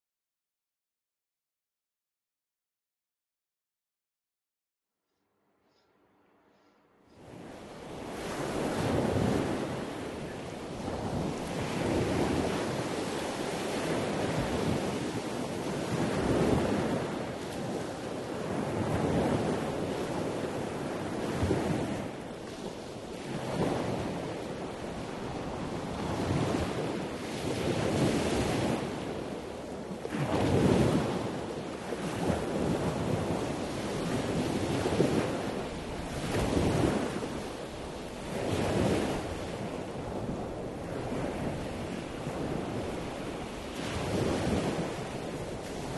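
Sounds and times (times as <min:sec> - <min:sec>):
wind rushing over microphone: 0:07.2 - 0:45.9.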